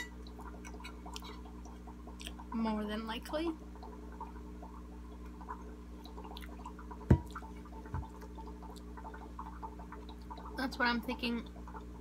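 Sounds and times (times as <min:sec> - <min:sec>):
aquarium air pump humming: 0:00.0 - 0:12.0.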